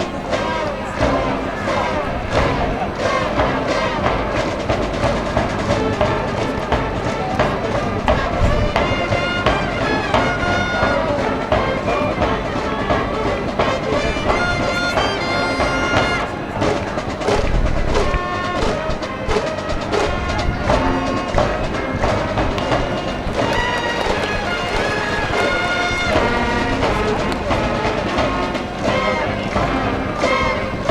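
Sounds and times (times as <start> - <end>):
brass band playing: 0.0 - 30.9
steady drum beat: 0.0 - 30.9.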